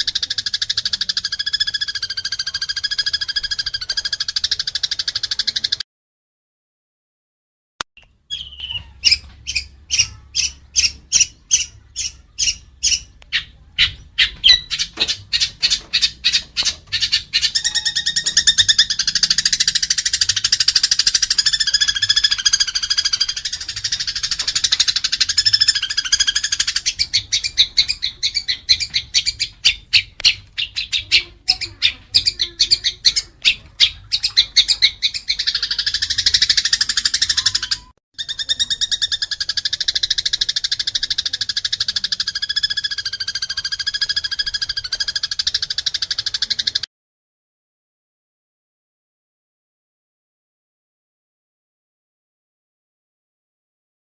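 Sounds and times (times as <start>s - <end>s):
songbird song: 0.0s - 5.8s, 8.0s - 46.9s.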